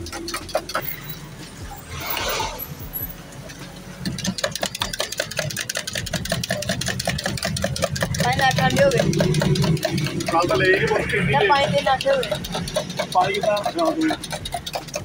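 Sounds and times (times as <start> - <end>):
engine idling with ticking: 0.0 - 1.7, 3.2 - 15.0.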